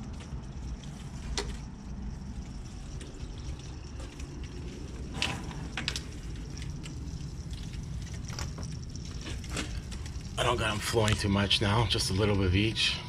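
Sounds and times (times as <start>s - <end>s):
steady low hum: 0.0s - 13.0s
water gurgling through pipes: 0.0s - 13.0s.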